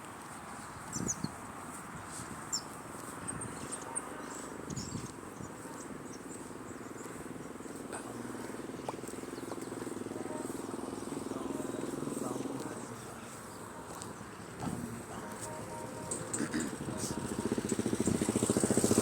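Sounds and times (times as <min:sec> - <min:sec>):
low engine hum: 0:02.8 - 0:19.0.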